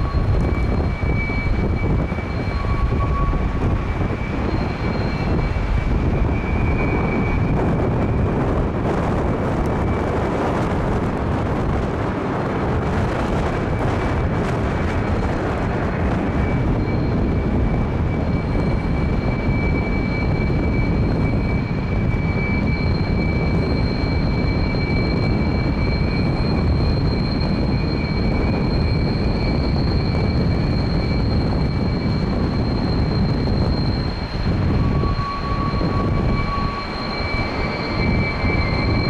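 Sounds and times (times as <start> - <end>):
jet engines whining overhead: 0.0 - 39.0
wind buffeting microphone: 0.0 - 39.0.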